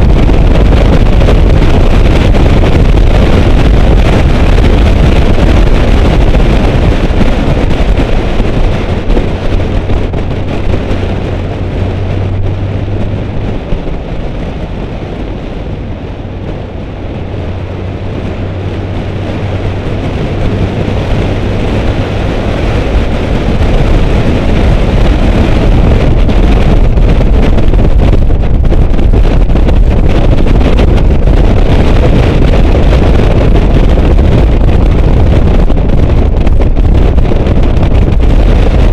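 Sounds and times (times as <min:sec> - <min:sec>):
car engine running: 0:00.0 - 0:38.9
wind buffeting microphone: 0:00.0 - 0:38.9.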